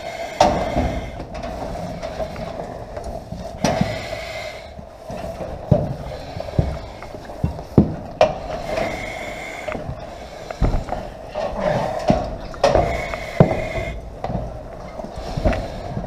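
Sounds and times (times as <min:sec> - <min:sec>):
hissing breaths through mask: 0:00.0 - 0:14.2, 0:15.0 - 0:16.0.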